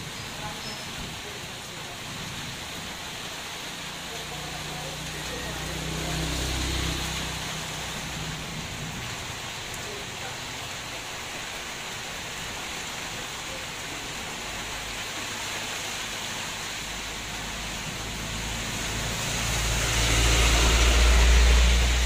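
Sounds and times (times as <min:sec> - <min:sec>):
rain on leaves and ground: 0:00.0 - 0:22.0
vehicle passing on wet road: 0:00.0 - 0:22.0.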